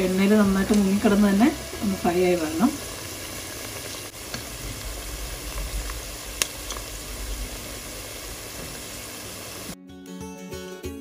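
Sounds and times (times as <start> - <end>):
oil sizzling and bubbling: 0.0 - 9.8.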